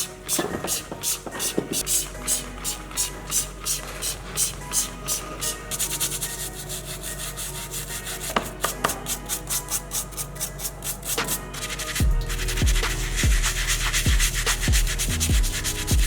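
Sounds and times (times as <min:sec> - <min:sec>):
sandpaper rasping on metal: 0:00.0 - 0:16.0.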